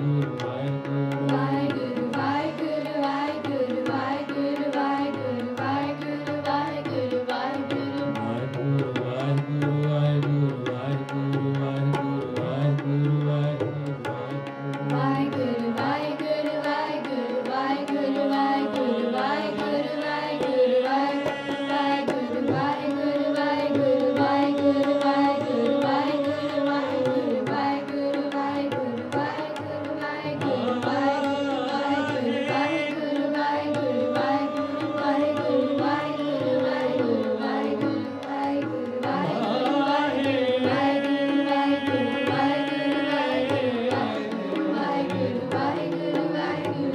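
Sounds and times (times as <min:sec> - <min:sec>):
harmonium: 0:00.0 - 0:46.9
tabla playing: 0:00.0 - 0:46.9
people singing a hymn: 0:01.3 - 0:08.2, 0:15.0 - 0:46.9.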